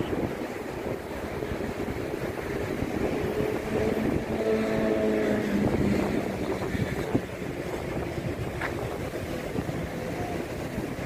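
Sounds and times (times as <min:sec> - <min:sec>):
wind buffeting microphone: 0:00.0 - 0:11.0
motor vehicle passing: 0:01.1 - 0:11.0.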